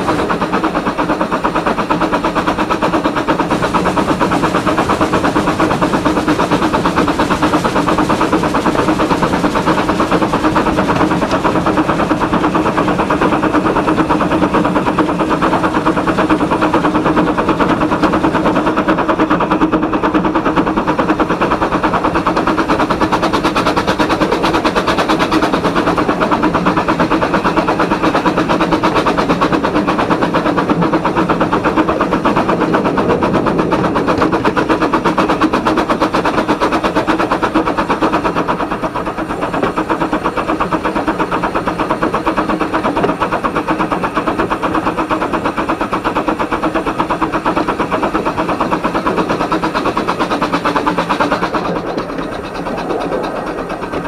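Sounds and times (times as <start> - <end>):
steam locomotive rattling beats: 0.0 - 54.0.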